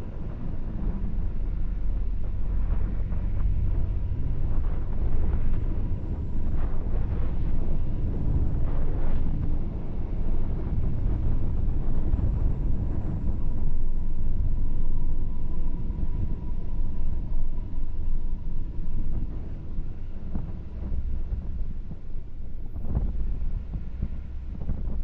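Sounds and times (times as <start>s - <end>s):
road and wind rumble: 0.0s - 25.0s.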